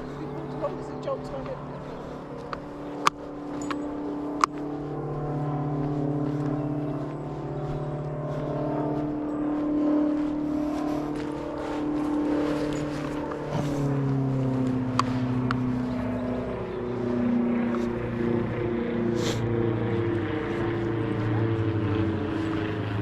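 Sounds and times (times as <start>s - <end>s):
motor engine droning: 0.0s - 23.0s.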